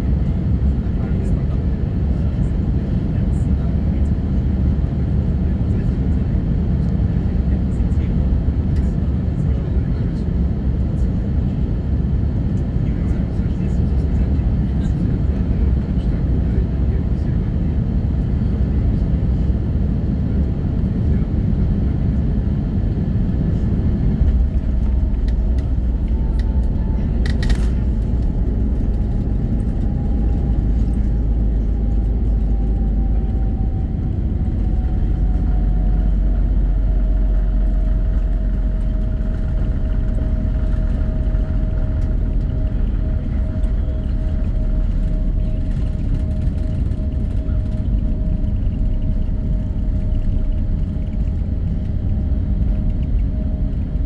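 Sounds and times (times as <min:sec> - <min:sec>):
airplane cabin rumble: 0:00.0 - 0:54.0
faint engine whine: 0:00.0 - 0:54.0.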